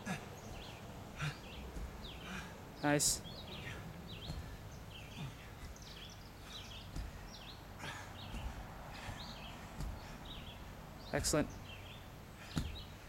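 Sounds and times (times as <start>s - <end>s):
small birds chirping: 0.0s - 13.0s
soft low thuds: 0.0s - 13.0s
steady outdoor hiss: 0.0s - 13.0s.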